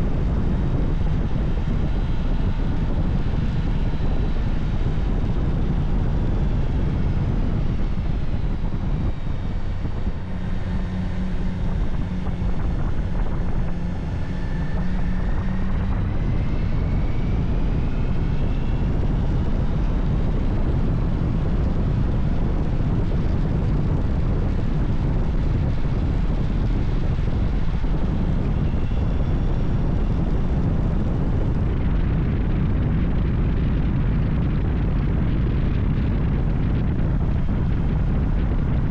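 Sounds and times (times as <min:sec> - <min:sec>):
heavy wind noise: 0:00.0 - 0:38.9
motorcycle engine running: 0:00.0 - 0:38.9.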